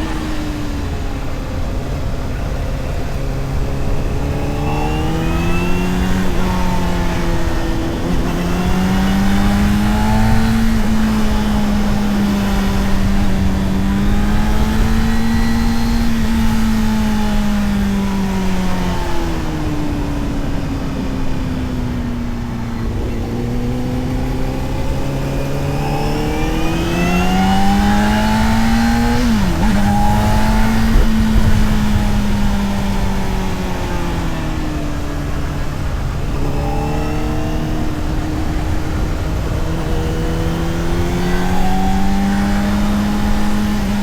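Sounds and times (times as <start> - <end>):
motorcycle engine and exhaust: 0.0 - 44.0
wind rush: 0.0 - 44.0.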